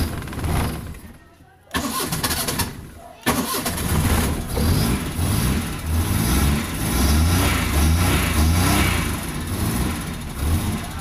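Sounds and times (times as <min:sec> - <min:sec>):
car engine revving: 0:01.8 - 0:11.0.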